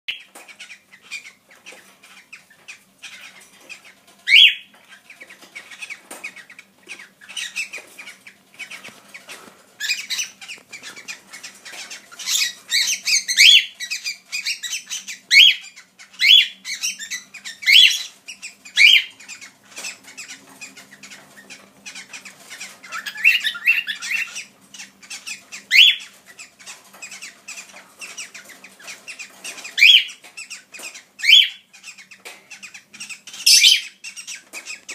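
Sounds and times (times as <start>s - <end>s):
cockatiels calling: 0.1s - 34.9s
soft bird chirps: 0.1s - 34.9s.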